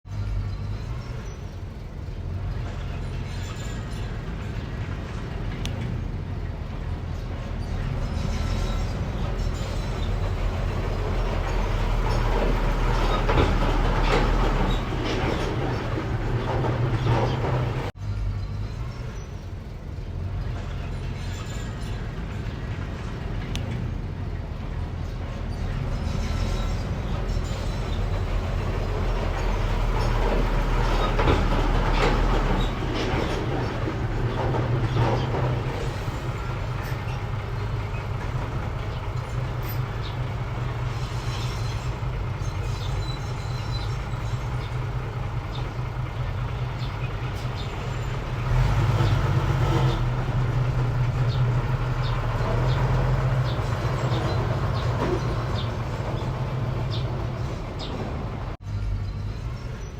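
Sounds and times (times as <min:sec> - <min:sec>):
mini bulldozer engine running: 0:00.1 - 0:59.9.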